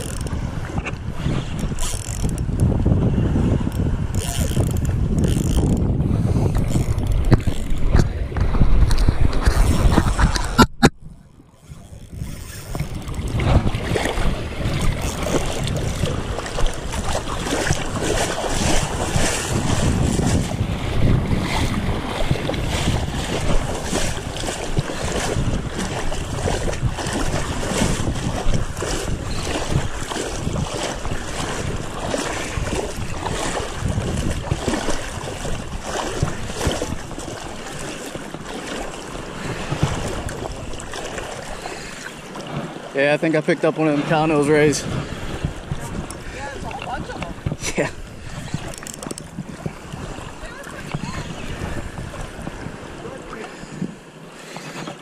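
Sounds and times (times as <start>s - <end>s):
wind buffeting microphone: 0.0s - 42.8s, 44.0s - 54.0s
shallow surf sloshing: 0.0s - 55.0s.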